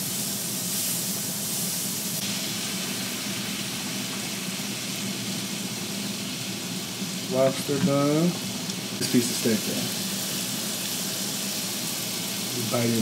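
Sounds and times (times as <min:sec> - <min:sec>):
broth boiling: 0:00.0 - 0:13.0
steak sizzling on grill: 0:00.0 - 0:13.0.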